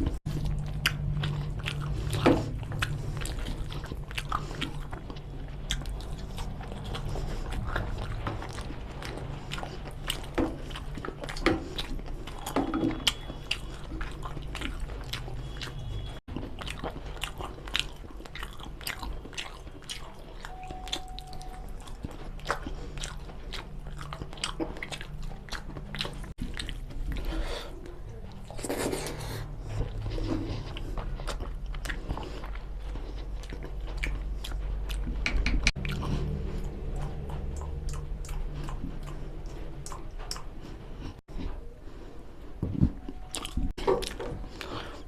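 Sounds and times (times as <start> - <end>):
chewing and biting food: 0.0 - 45.0
steady low hum: 0.0 - 45.0.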